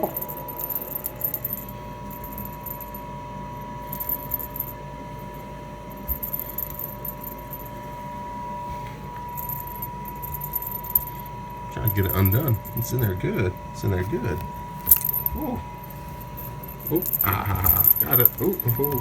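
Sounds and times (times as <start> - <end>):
cat toy jingling and rattling: 0.0 - 3.0, 3.6 - 4.8, 5.9 - 7.8, 9.2 - 19.0
household appliance hum: 0.0 - 19.0.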